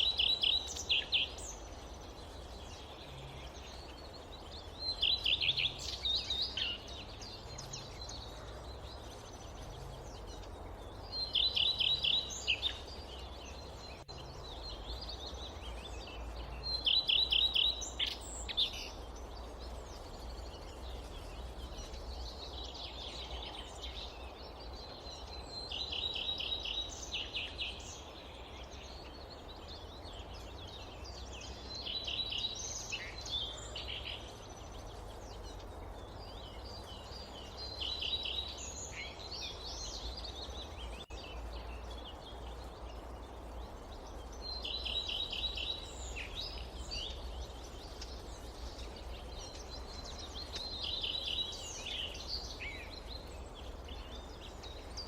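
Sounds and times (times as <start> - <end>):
forest ambience: 0.0 - 55.0
songbird singing: 0.0 - 55.0.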